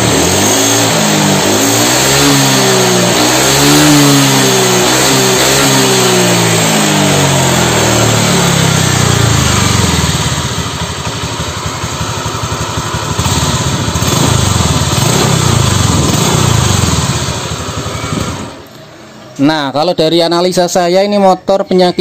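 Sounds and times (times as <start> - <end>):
scooter engine running: 0.0 - 19.2.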